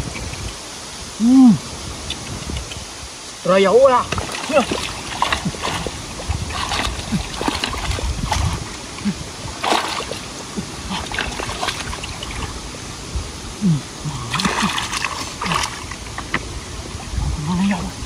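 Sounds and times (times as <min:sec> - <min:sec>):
water splashing and sloshing: 0:01.8 - 0:18.0.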